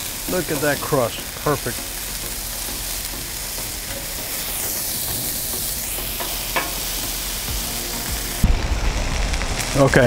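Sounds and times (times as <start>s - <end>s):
meat patties sizzling on a griddle: 0.0s - 10.0s.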